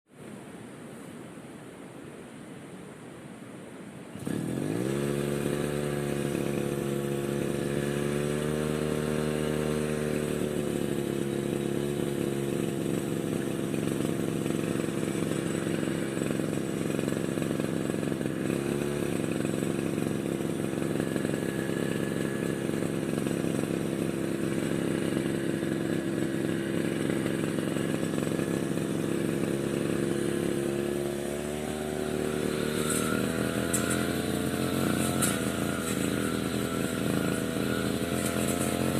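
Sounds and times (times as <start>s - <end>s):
brush cutter engine revving: 4.2s - 38.9s.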